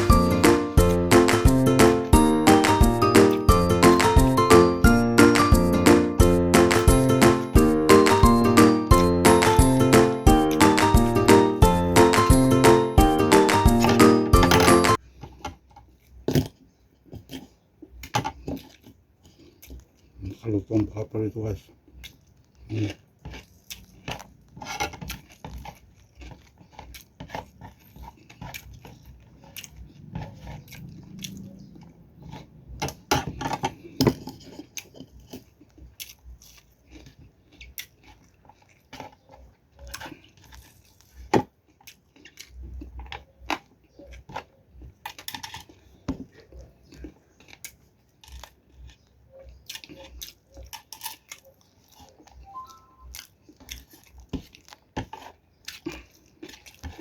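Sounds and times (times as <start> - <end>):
crunchy fish being chewed: 0.0 - 57.0.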